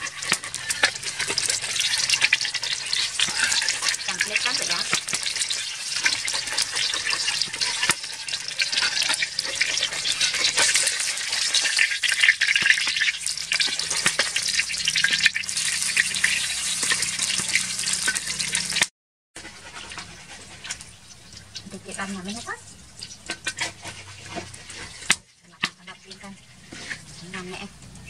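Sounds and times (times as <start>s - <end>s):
metal spatula scraping wok: 0.0s - 18.8s, 21.8s - 28.0s
egg sizzling in hot oil: 0.0s - 28.0s.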